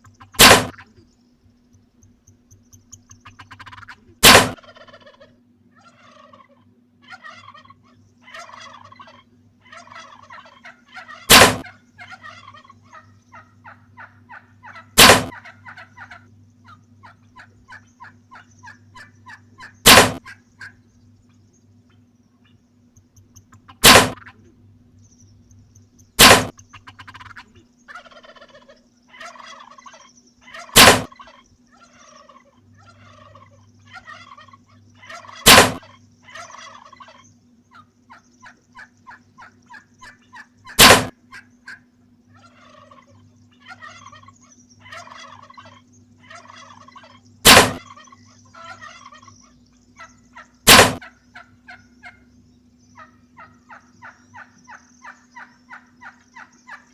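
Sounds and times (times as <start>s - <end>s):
turkey gobbling: 0.0s - 1.1s, 2.7s - 20.8s, 23.2s - 24.5s, 26.2s - 52.3s, 52.9s - 56.9s
rapid turkey calls: 0.0s - 56.9s.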